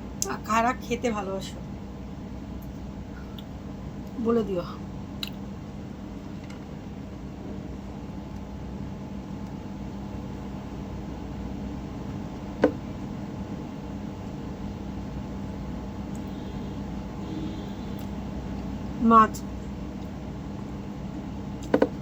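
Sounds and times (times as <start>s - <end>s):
faint constant tone: 0.0s - 22.0s
low background hum: 0.0s - 22.0s.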